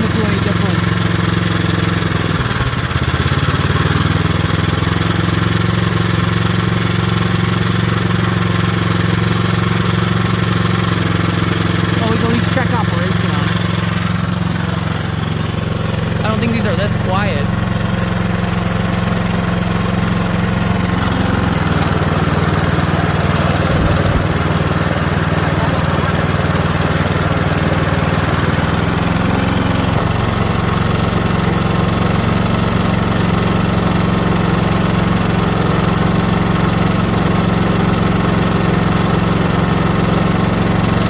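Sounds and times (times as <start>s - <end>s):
snowblower engine running slowly: 0.0s - 41.0s.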